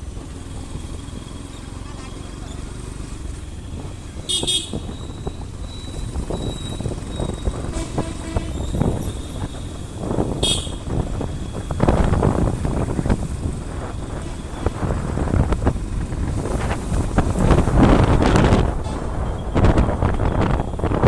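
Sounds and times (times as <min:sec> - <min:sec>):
motorcycle riding noise: 0:00.0 - 0:21.0
wind buffeting microphone: 0:03.4 - 0:21.0.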